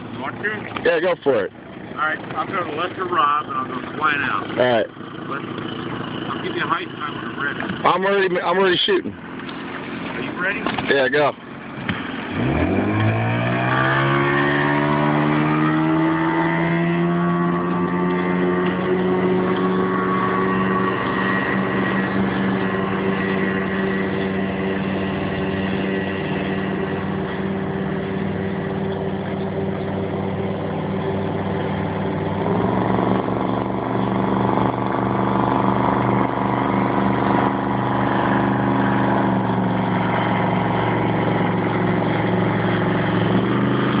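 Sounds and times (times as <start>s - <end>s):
motorboat engine droning: 0.0s - 44.0s.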